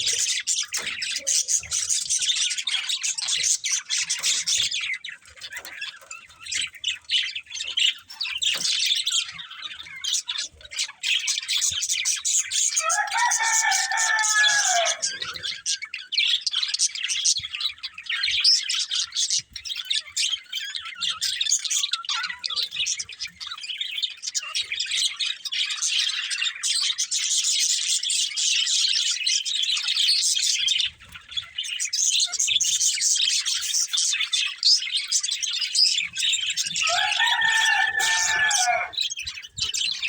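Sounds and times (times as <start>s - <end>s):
budgerigars chirping and chattering: 0.0s - 40.0s.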